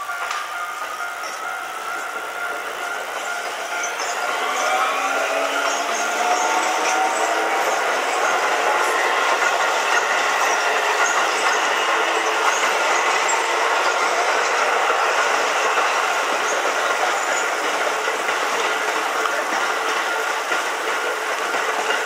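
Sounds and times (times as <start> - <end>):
crossing warning alarm tones: 0.0 - 22.0
train wheels rumbling and clattering: 0.0 - 22.0.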